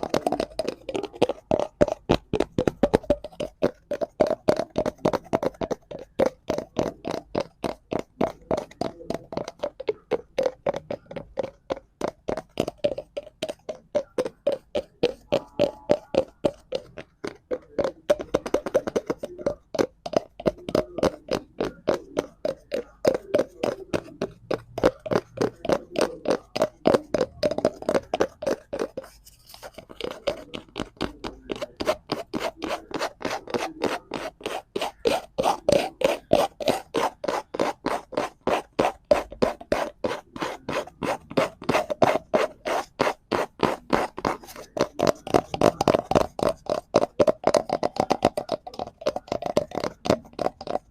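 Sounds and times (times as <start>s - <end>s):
fingers scratching cardboard: 0.0s - 50.9s.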